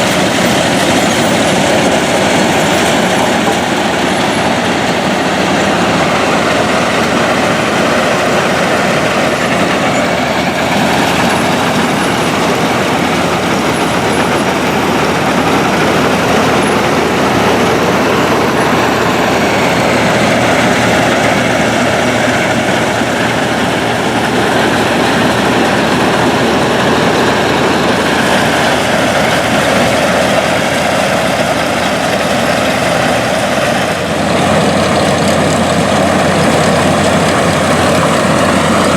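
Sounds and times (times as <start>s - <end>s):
harvesting machinery rumbling: 0.0s - 38.9s.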